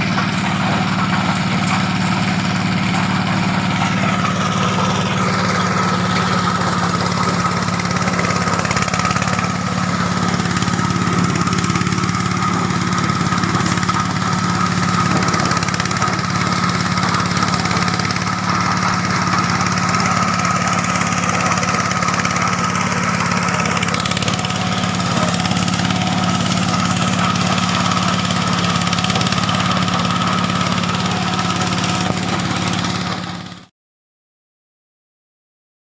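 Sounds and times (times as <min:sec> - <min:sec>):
corn sheller motor running: 0:00.0 - 0:33.7.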